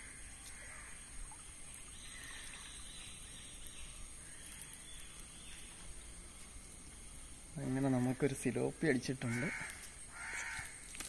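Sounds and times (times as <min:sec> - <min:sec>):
outdoor background noise: 0:00.0 - 0:11.0
soft high hiss: 0:00.0 - 0:11.0.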